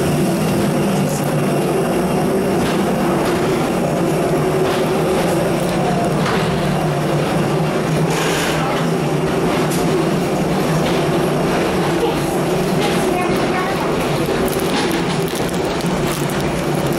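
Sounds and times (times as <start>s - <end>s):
footsteps and rolling suitcases: 0.0s - 16.9s
loud machinery drone: 0.0s - 16.9s.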